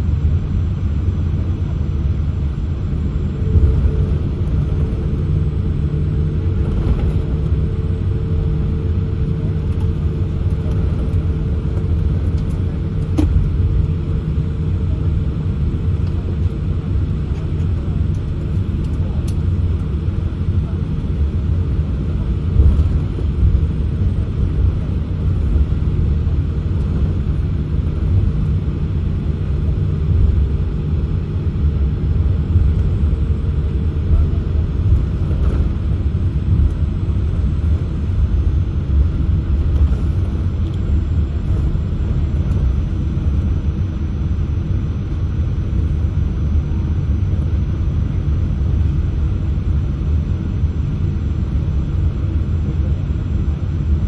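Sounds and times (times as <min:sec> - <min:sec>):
airplane cabin low rumble: 0:00.0 - 0:54.0.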